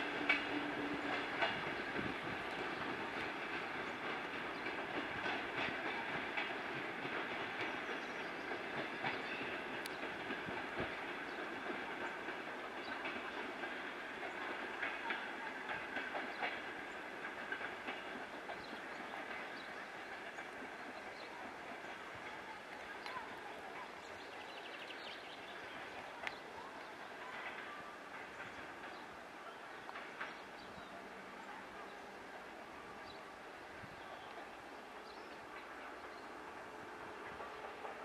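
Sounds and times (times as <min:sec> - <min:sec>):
train wheels clattering over rail joints: 0:00.0 - 0:23.4, 0:27.3 - 0:31.4, 0:35.0 - 0:38.0
train rumble: 0:00.0 - 0:38.0.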